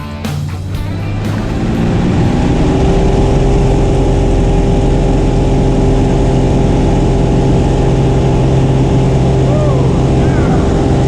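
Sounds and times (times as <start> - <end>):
plane engine droning: 0.0 - 11.0.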